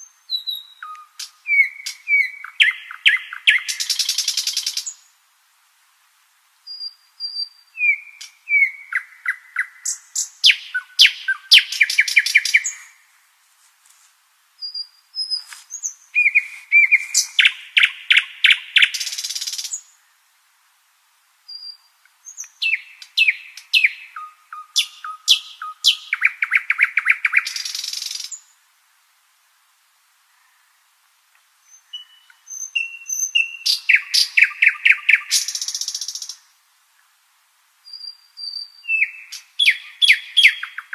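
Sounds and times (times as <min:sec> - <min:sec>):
nightingale singing: 0:00.0 - 0:05.2, 0:06.6 - 0:13.3, 0:14.5 - 0:20.2, 0:21.4 - 0:28.7, 0:31.3 - 0:37.2, 0:37.8 - 0:40.9.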